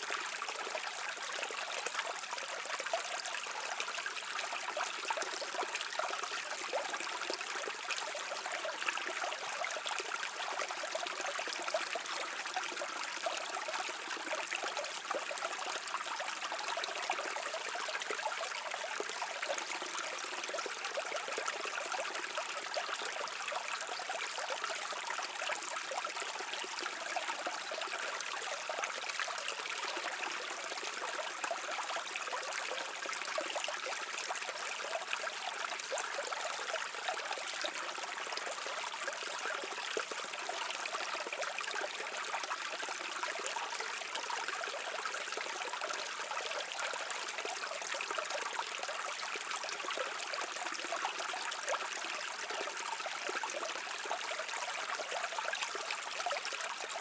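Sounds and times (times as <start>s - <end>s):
brook water babbling: 0.0s - 57.0s.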